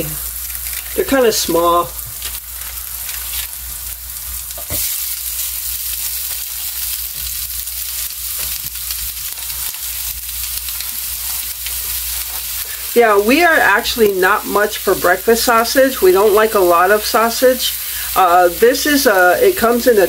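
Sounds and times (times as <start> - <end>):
sausage sizzling in a skillet: 0.0 - 20.0.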